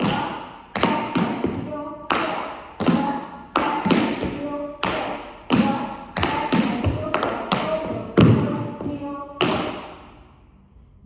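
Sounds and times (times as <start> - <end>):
tap shoes on wooden floor: 0.0 - 9.8.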